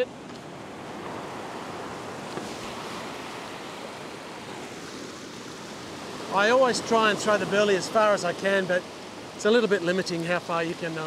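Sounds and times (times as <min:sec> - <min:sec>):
ocean surf over rocks: 0:00.0 - 0:11.0.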